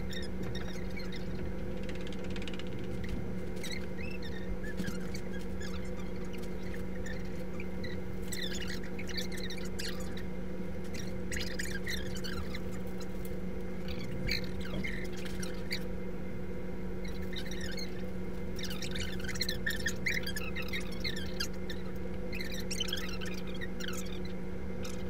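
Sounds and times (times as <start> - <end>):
ventilation hum: 0.0 - 25.0.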